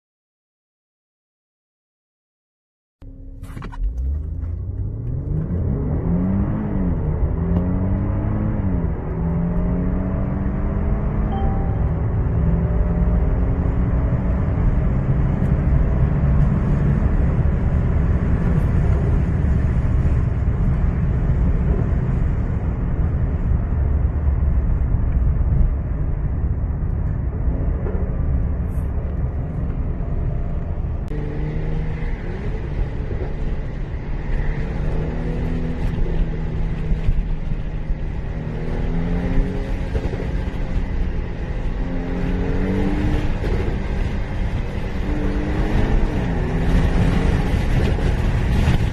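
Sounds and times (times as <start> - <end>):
car engine accelerating hard: 3.0 - 48.9.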